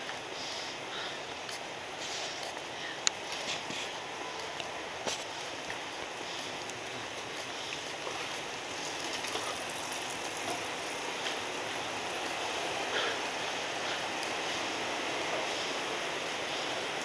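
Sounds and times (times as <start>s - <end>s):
distant road traffic: 0.0s - 17.0s
footsteps: 1.4s - 17.0s.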